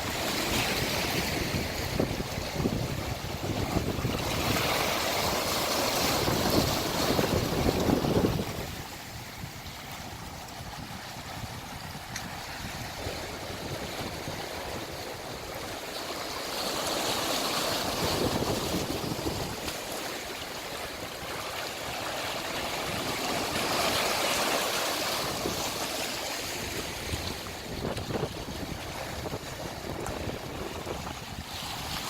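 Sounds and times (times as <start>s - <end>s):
wind rumble on microphone: 0.0s - 15.9s, 17.8s - 21.5s, 25.1s - 32.0s
sea waves breaking on shore: 0.0s - 32.0s.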